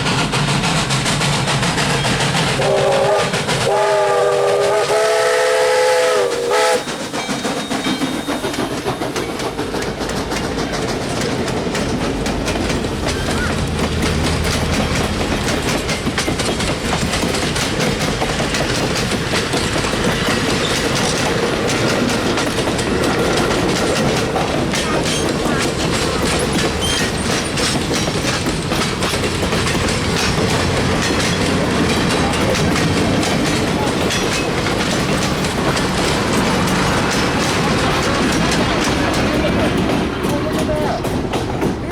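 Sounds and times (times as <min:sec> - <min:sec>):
train wheels clicking over rails: 0:00.0 - 0:41.9.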